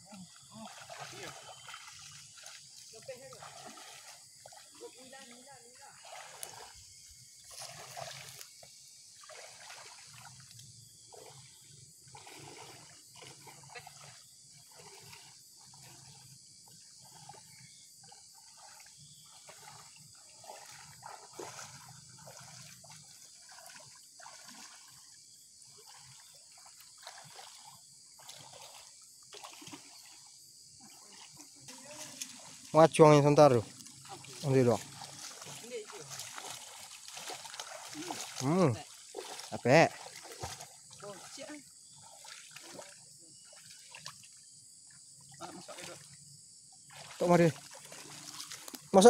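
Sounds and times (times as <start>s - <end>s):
water sloshing around wading legs: 0.0s - 49.0s.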